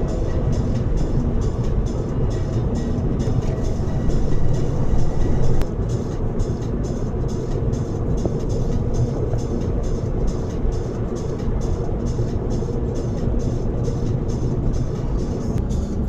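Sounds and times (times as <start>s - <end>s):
car driving rumble: 0.0s - 16.0s
music with quick even beat: 0.0s - 16.0s.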